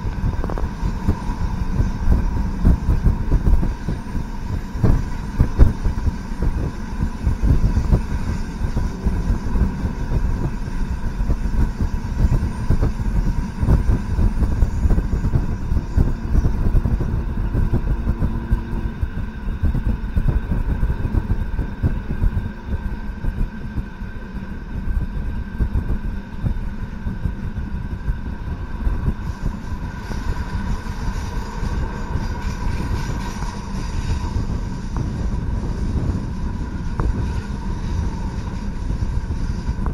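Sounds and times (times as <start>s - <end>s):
railcar engine and wheels rumbling: 0.0s - 39.9s
steady hum: 0.0s - 39.9s.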